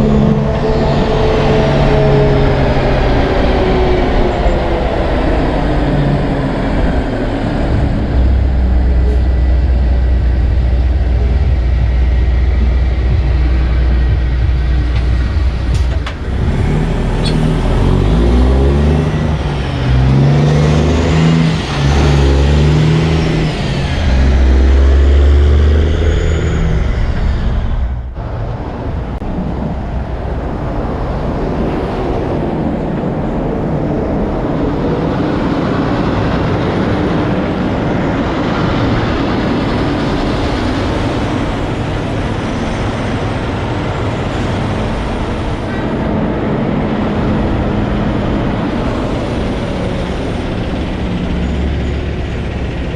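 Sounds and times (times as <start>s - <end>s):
traffic and road noise: 0.0s - 52.9s
truck engine shifting gears: 0.0s - 52.9s.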